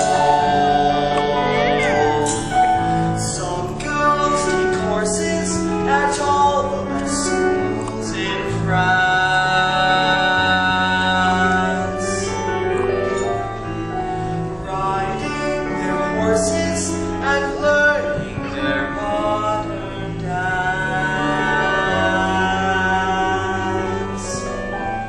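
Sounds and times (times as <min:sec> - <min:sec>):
young man singing a ballad: 0:00.0 - 0:13.3, 0:14.6 - 0:24.8
instrumental accompaniment: 0:00.0 - 0:25.0.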